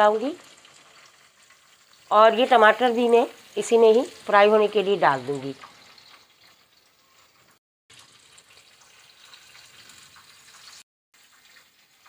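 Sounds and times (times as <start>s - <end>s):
vegetables deep-frying in oil: 0.0s - 12.0s.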